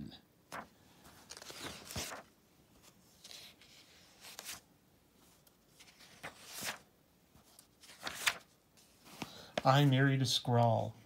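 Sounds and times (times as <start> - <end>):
magazine pages turning: 0.5 - 4.6, 5.2 - 10.0.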